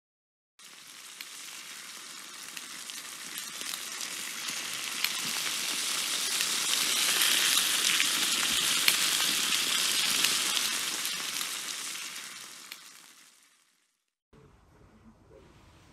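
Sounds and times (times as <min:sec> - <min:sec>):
sizzling crackling with sharp pops: 0:00.6 - 0:14.2.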